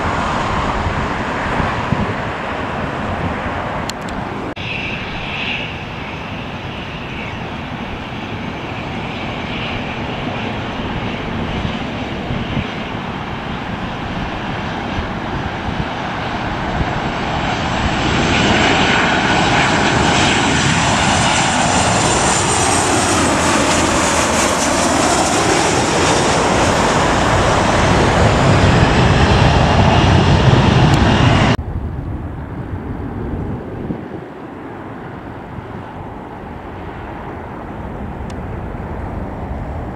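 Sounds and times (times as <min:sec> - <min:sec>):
distant jet hum: 0:00.0 - 0:39.9
jet engines passing overhead: 0:00.0 - 0:39.9.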